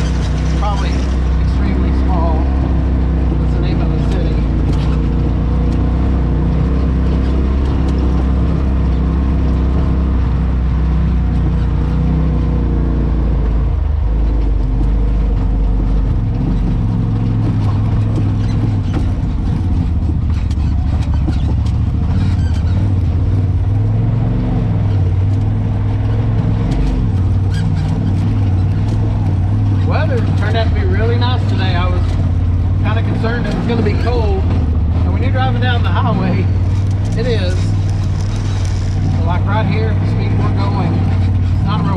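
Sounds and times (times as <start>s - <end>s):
off-road vehicle engine running: 0.0s - 41.9s.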